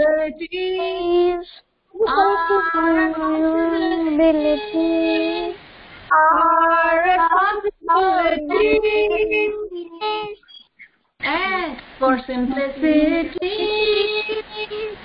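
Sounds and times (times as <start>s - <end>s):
person singing long notes: 0.0s - 10.4s, 11.2s - 15.0s.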